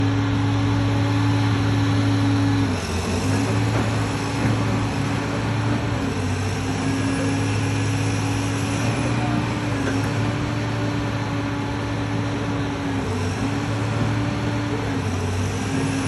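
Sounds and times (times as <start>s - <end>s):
large engine running: 0.0s - 16.0s.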